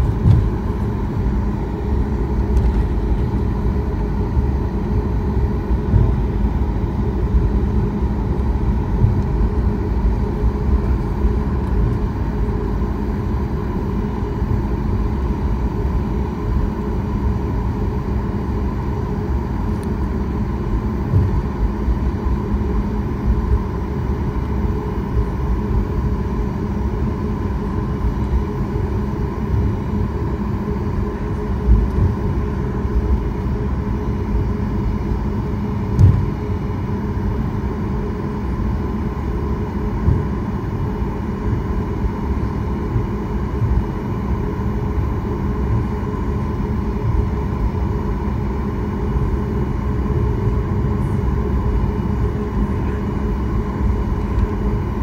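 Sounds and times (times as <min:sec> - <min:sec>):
jet engines humming: 0:00.0 - 0:55.0
low cabin rumble: 0:00.0 - 0:55.0.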